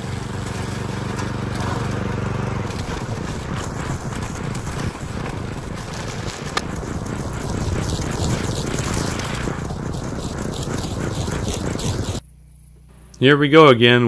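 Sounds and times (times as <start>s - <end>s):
string trimmer engine cutting grass: 0.0s - 12.2s.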